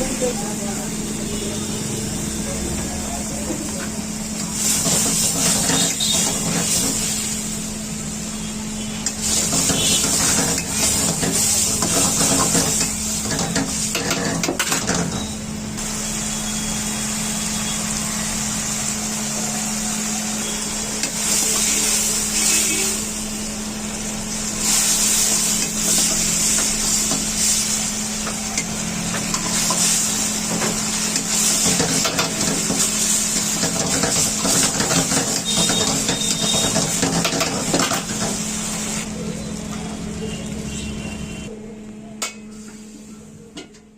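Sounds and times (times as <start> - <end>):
food sizzling in a wok: 0.0 - 41.5, 42.4 - 43.3.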